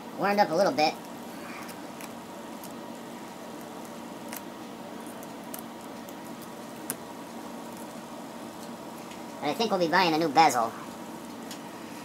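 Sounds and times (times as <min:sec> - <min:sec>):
steady faint hum: 0:00.0 - 0:12.0.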